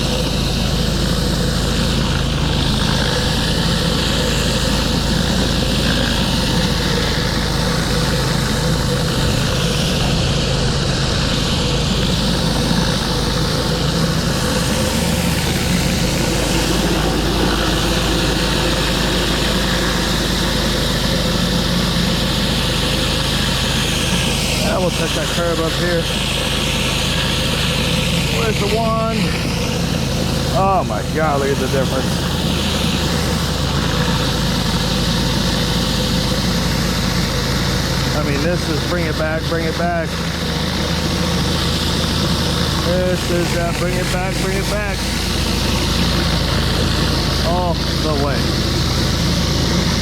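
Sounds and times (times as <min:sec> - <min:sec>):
high-pressure water spraying on concrete: 0:00.0 - 0:50.0
pressure washer engine humming: 0:00.0 - 0:50.0.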